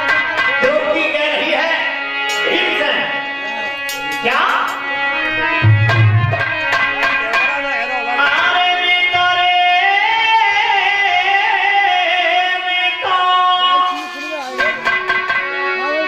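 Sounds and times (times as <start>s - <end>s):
harmonium: 0.0s - 16.0s.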